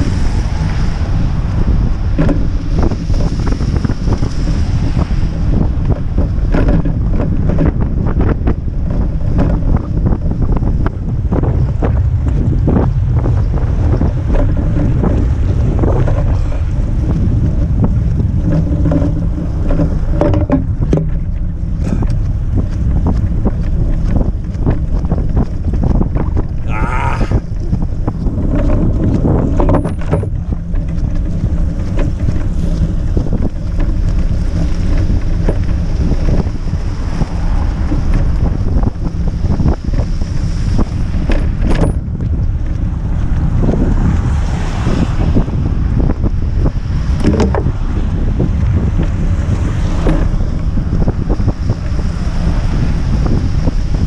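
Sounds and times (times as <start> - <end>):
bike clicks and rattles: 0.0 - 54.0
wind buffeting microphone: 0.0 - 54.0.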